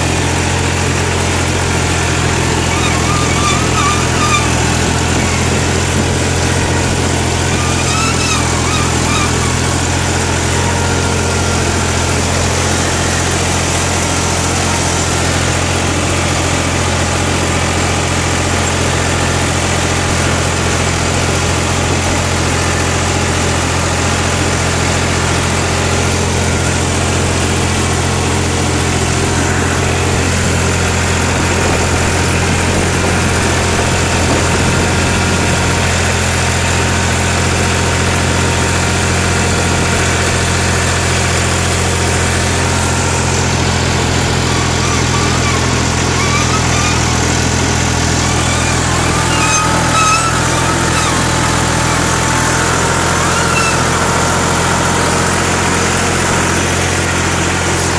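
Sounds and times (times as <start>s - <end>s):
tractor diesel engine droning: 0.0s - 57.9s.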